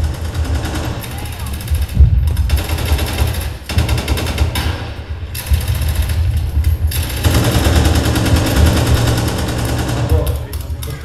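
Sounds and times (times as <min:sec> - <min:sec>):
machine-gun fire over loudspeakers: 0:00.0 - 0:11.0.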